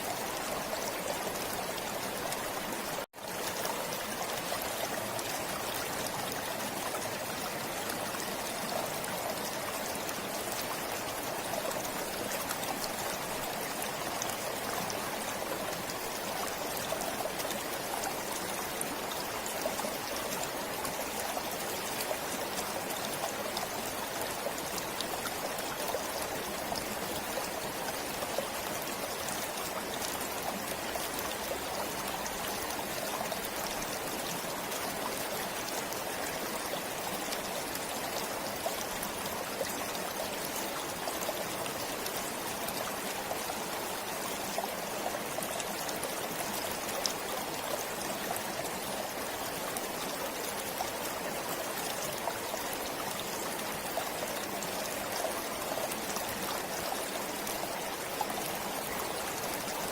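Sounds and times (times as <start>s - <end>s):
stream water splashing over rocks: 0.0s - 59.9s.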